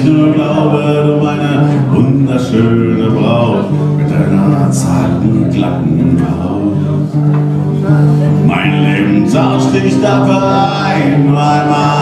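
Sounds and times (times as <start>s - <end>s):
acoustic guitar: 0.0s - 12.0s
man singing: 0.0s - 12.0s.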